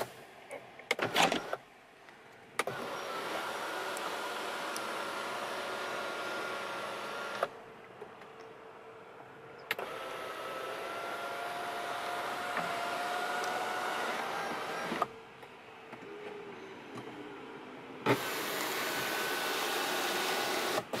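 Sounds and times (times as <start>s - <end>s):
sunroof motor whining: 2.6s - 21.0s.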